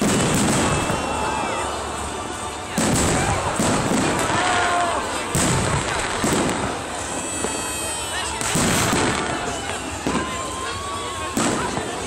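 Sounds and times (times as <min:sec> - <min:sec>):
fireworks banging: 0:00.0 - 0:12.0
fireworks crackling: 0:00.0 - 0:12.0
onlookers' voices: 0:00.0 - 0:12.0.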